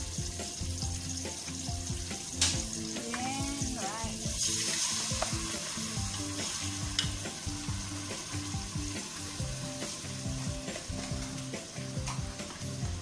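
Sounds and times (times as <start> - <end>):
background music: 0.0 - 13.0
sizzling in a pot: 0.0 - 13.0.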